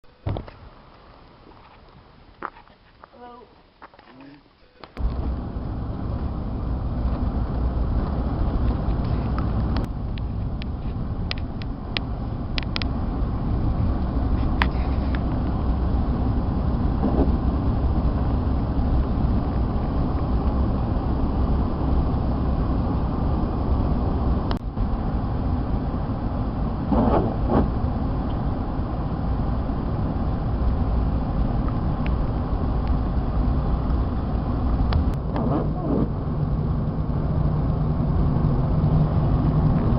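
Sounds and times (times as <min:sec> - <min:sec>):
road noise: 0:00.0 - 0:39.9
vehicle engine rumble: 0:00.0 - 0:39.9.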